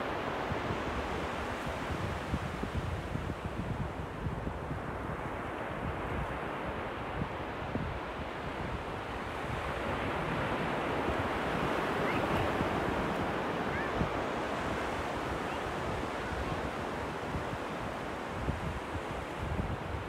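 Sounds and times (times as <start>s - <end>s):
wind buffeting microphone: 0.2s - 20.0s.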